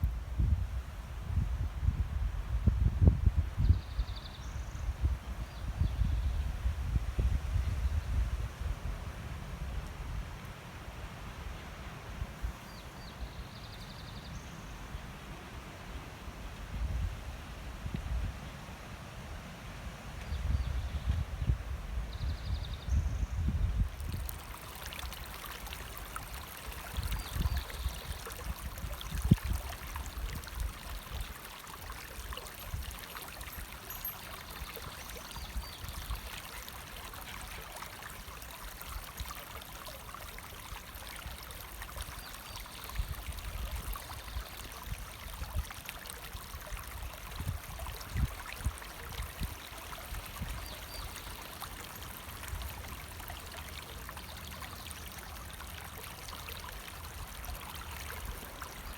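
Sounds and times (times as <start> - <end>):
stream running: 3.0 - 58.9.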